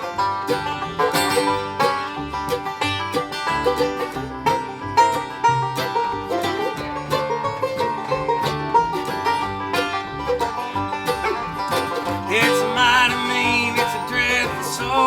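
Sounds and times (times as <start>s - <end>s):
acoustic guitar: 0.0s - 15.0s
banjo picking: 0.0s - 15.0s.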